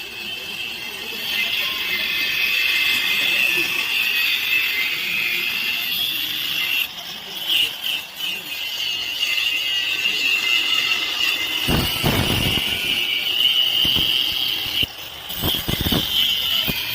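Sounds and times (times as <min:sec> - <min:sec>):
welding arc hissing and crackling: 0:00.0 - 0:16.9.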